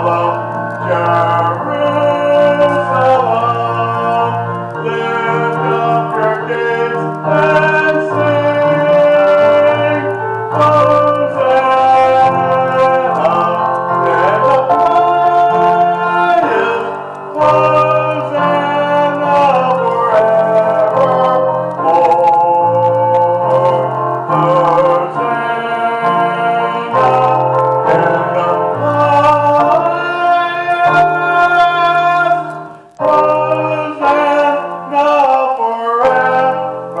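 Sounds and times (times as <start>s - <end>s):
keyboard playing organ-like chords: 0.0s - 37.0s.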